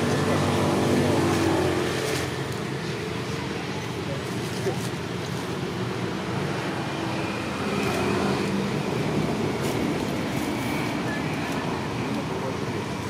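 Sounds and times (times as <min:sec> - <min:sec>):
engine and traffic rumble: 0:00.0 - 0:13.0.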